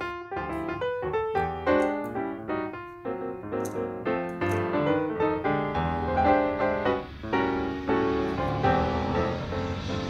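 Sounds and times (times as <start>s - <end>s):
piano music quick run: 0.0s - 10.0s.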